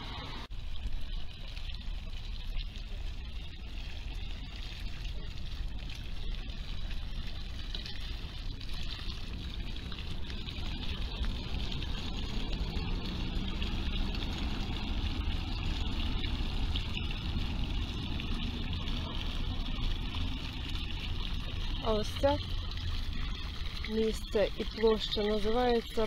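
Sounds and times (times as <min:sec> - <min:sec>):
constant low rumble: 0:00.0 - 0:26.0
fountain jets splashing: 0:00.0 - 0:26.0.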